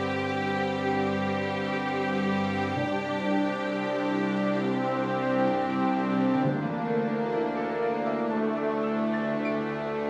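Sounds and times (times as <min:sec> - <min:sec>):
slow instrumental music: 0:00.0 - 0:10.0.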